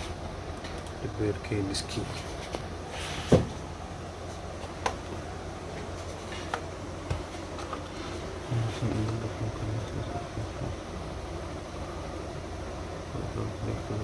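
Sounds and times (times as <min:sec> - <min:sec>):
low hum and fan noise: 0:00.0 - 0:14.0.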